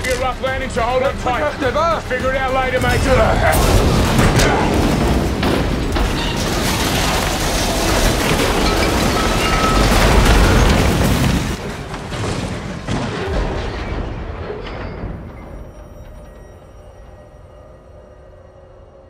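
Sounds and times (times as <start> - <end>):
train crashing and derailing: 0.0 - 18.9.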